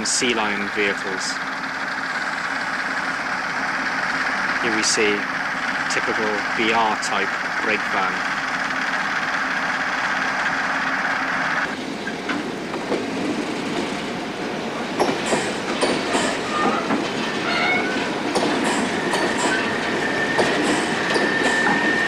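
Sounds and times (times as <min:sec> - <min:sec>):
train wheels running on track: 0:00.0 - 0:22.0.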